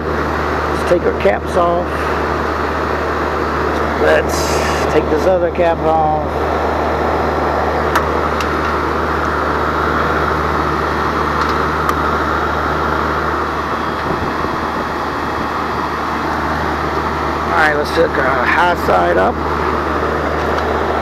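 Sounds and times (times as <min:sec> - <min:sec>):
air conditioner unit humming: 0:00.0 - 0:21.0.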